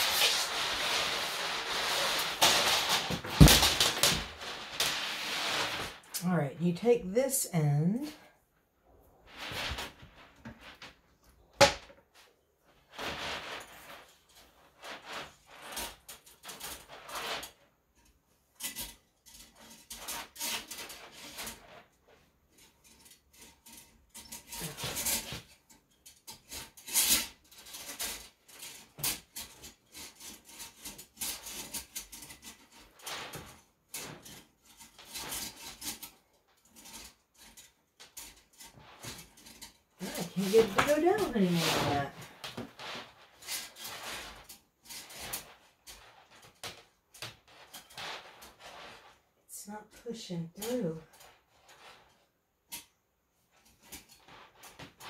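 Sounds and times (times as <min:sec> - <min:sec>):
metal cable scraping porcelain: 0:00.0 - 0:06.2, 0:12.7 - 0:49.3, 0:50.3 - 0:55.0.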